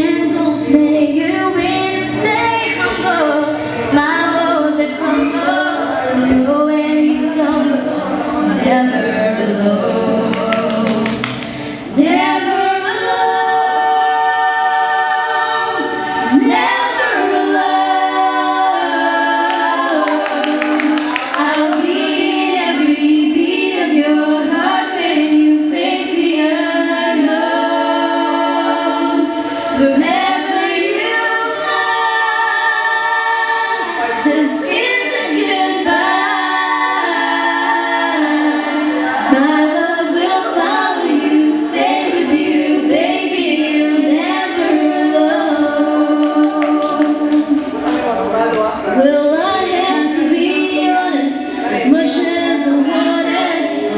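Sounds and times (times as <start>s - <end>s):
women singing in harmony: 0.0s - 48.2s, 48.9s - 53.9s.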